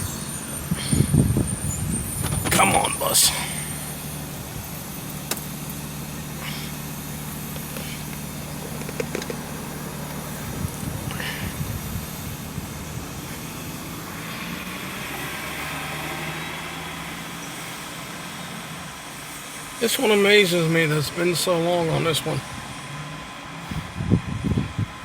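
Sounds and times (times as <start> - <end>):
passing traffic hiss: 0.0 - 25.0
vehicle engine idling: 0.0 - 25.0.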